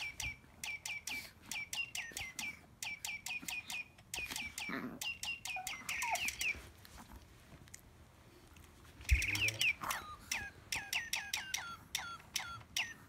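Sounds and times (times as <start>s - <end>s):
pet bird chirping: 0.0s - 6.6s, 9.1s - 13.0s.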